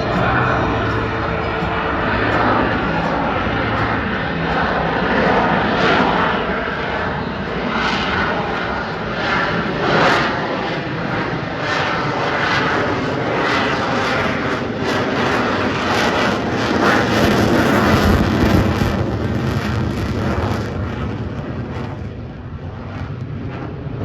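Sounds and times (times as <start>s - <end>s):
airplane engine roaring: 0.0s - 24.0s.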